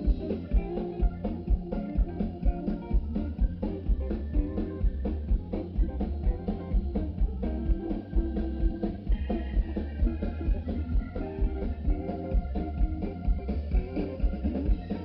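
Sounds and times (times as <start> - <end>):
blues band playing: 0.0 - 15.0
drum kit beat: 0.0 - 15.0.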